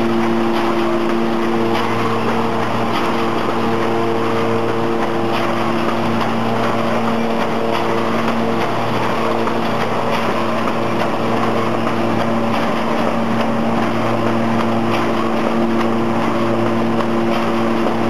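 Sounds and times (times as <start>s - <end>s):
machine humming with held tones: 0.0s - 18.0s
repeating mechanical clatter: 0.0s - 18.0s.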